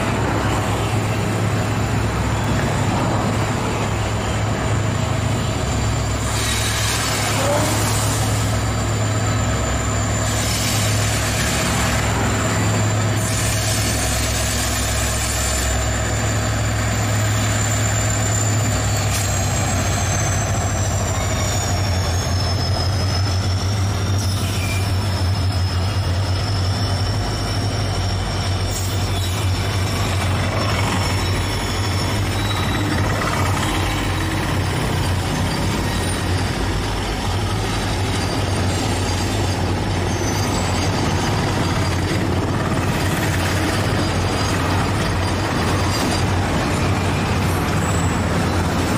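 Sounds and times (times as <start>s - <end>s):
diesel locomotive engine drone: 0.0s - 48.9s.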